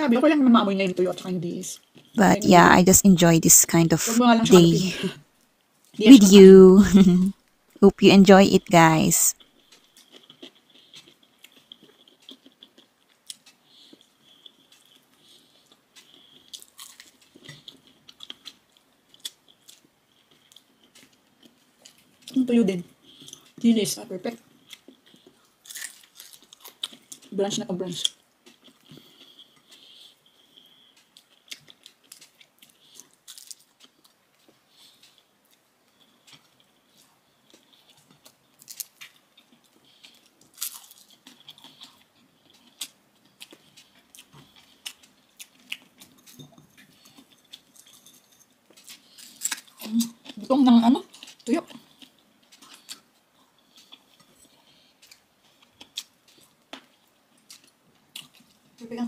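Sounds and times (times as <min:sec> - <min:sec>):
closed-mouth chewing: 0:09.3 - 0:23.6, 0:24.3 - 0:58.8.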